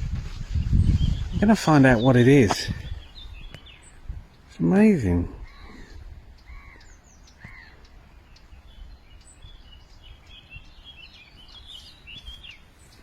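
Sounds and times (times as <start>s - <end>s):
songbird twittering: 0.4s - 13.0s.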